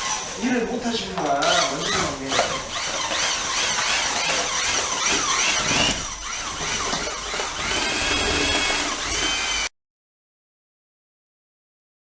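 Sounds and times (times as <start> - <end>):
mortar mixer running: 0.0 - 9.7.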